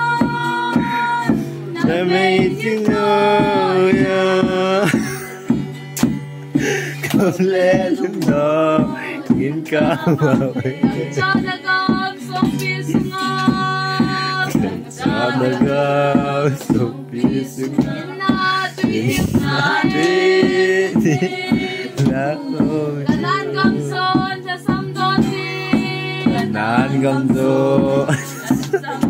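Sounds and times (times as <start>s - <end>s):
group singing: 0.0s - 5.6s, 6.6s - 29.0s
strummed acoustic guitar: 0.0s - 29.0s
hands clapping a beat: 0.1s - 29.0s.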